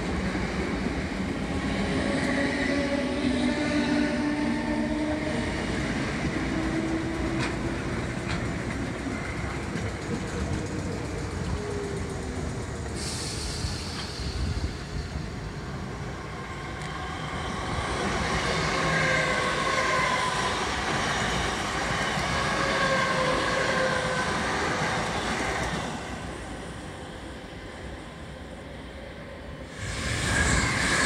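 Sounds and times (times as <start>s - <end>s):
train wheels rumbling on track: 0.0s - 28.6s, 29.6s - 31.0s.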